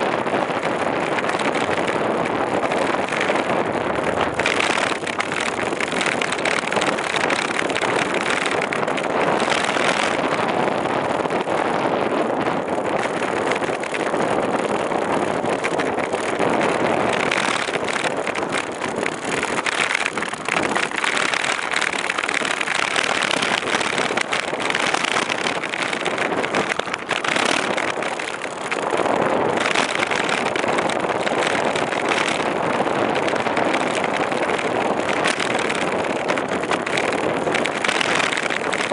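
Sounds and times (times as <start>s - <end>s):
bicycle rolling noise: 0.0s - 38.9s
wind rush on microphone: 0.0s - 38.9s.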